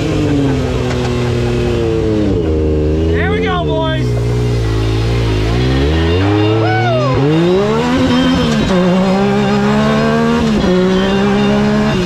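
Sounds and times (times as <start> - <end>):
engine accelerating through gears: 0.0 - 12.0.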